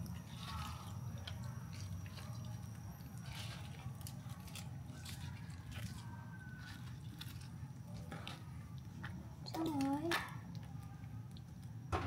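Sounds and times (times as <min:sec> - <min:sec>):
low steady hum: 0:00.0 - 0:12.0
crunching of leafy vegetables: 0:00.2 - 0:11.5.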